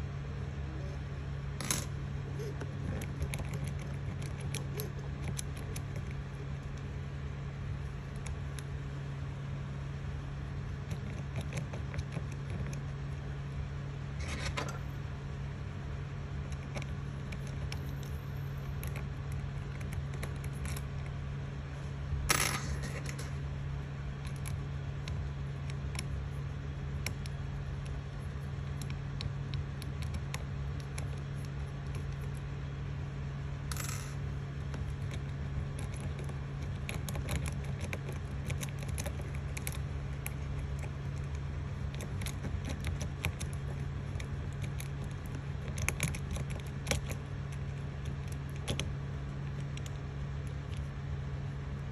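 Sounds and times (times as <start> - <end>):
low fan hum: 0.0 - 51.9.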